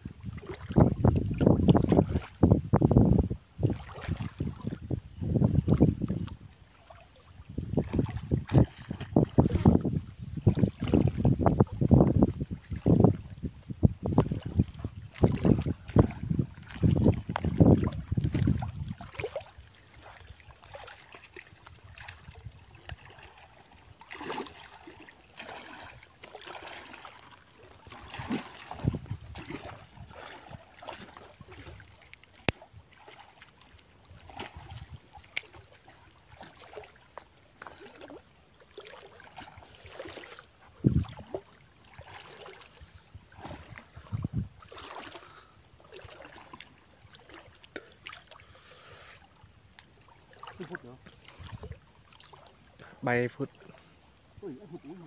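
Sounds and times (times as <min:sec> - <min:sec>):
water splashing and sloshing: 0:00.0 - 0:55.0.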